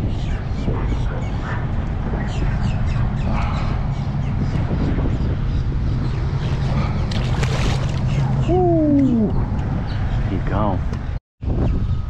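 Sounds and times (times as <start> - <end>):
birds calling: 0.1 - 11.2.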